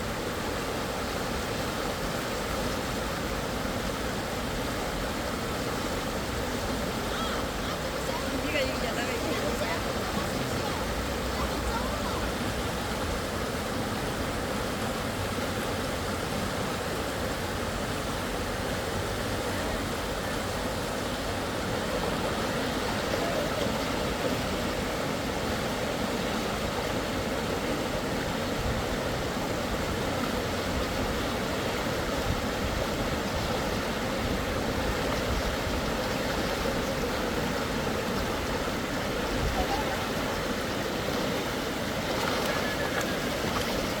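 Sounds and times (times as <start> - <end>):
river water rushing over rapids: 0.0 - 44.0.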